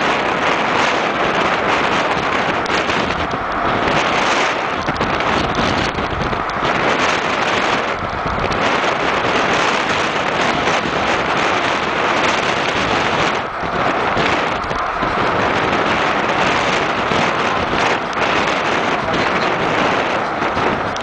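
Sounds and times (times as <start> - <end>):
vehicle and road noise: 0.0 - 21.0
wind buffeting microphone: 0.0 - 21.0.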